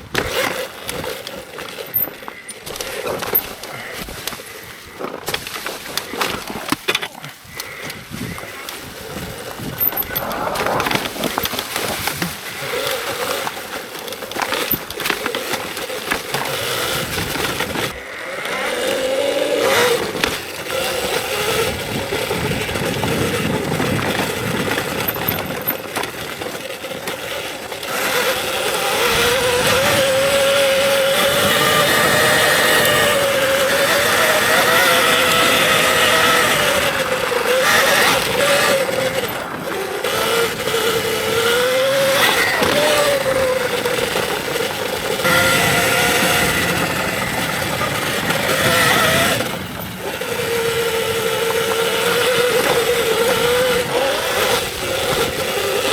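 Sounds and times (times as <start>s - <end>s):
electric motor whine: 0.0s - 55.9s
tyres on trail: 0.0s - 55.9s.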